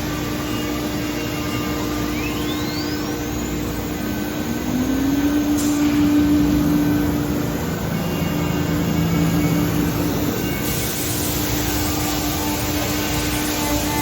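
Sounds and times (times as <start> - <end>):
machine noise: 0.0 - 14.0
router spindle whine: 0.0 - 14.0.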